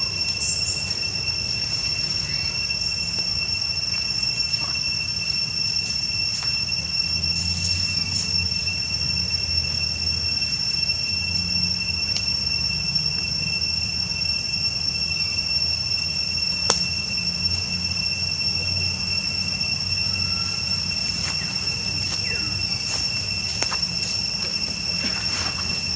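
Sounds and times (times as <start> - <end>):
high-pitched insect drone: 0.0 - 25.9.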